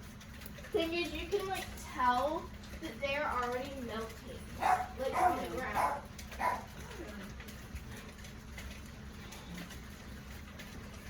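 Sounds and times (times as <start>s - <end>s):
rain patter: 0.0s - 11.0s.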